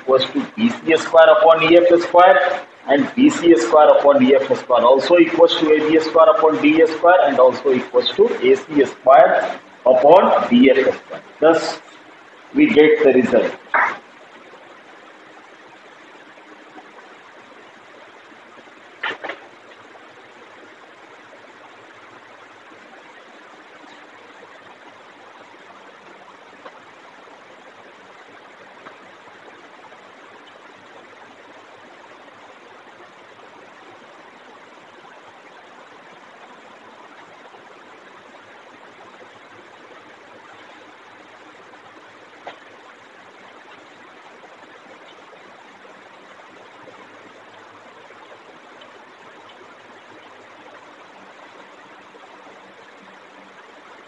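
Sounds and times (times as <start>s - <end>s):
room noise hiss: 0.0s - 54.0s.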